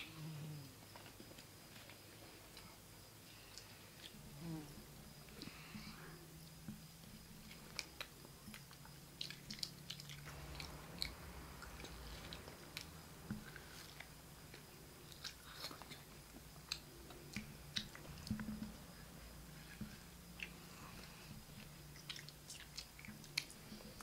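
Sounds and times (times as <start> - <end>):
children chewing meat: 0.0 - 24.0
faint low hum: 0.0 - 24.0.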